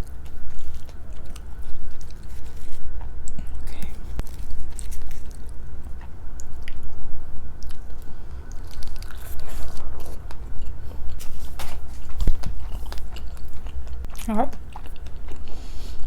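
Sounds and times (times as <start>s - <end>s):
wet chewing: 0.0s - 7.0s, 7.6s - 16.0s.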